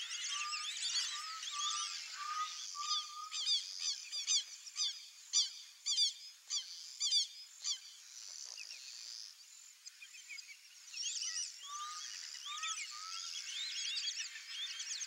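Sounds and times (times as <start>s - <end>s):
chatter of many birds: 0.0s - 15.0s.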